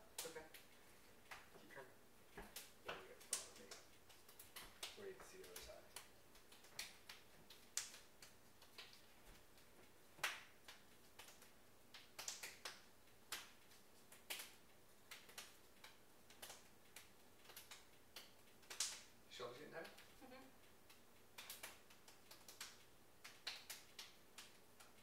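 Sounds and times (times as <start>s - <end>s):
hand claps and palm slaps: 0.0s - 1.6s, 2.4s - 19.1s, 20.9s - 25.0s.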